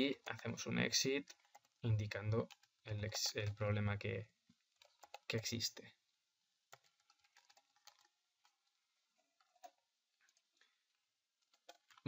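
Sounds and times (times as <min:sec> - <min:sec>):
faint keyboard typing: 0:00.0 - 0:05.9, 0:06.6 - 0:12.0.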